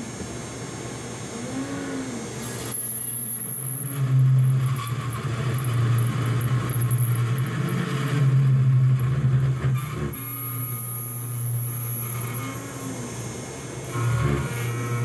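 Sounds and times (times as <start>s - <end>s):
harsh metal cutting noise: 0.0s - 15.0s
high whine: 0.0s - 15.0s
spindle motor hum: 0.0s - 15.0s.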